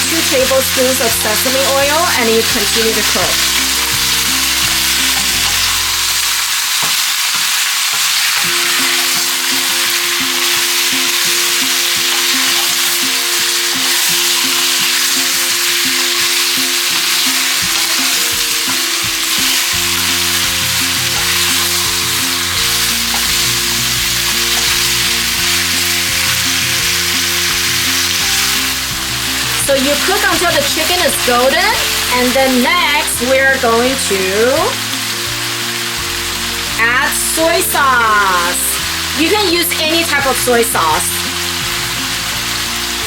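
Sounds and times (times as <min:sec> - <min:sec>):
chicken sizzling in oil: 0:00.0 - 0:43.0
light background music: 0:00.0 - 0:43.0.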